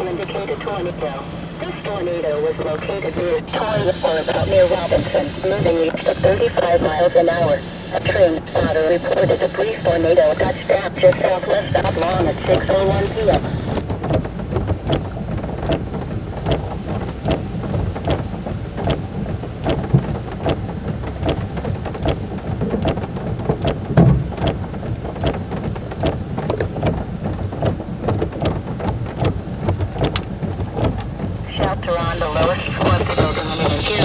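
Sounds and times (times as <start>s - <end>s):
heavy rain pelting a car: 0.0s - 34.0s.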